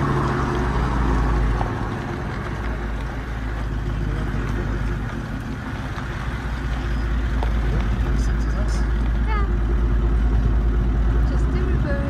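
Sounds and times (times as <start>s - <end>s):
car rumbling on gravel: 0.0s - 12.0s.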